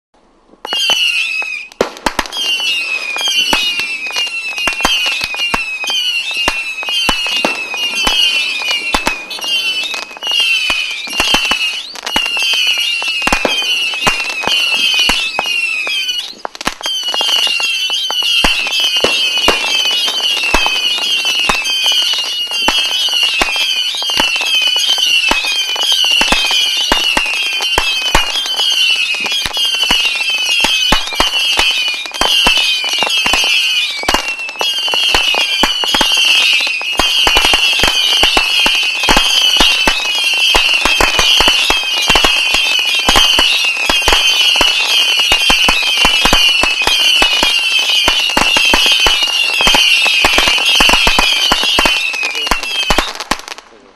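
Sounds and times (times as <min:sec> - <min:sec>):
firework whistles: 0:00.6 - 0:53.8
firework cracks and bangs: 0:00.6 - 0:53.9.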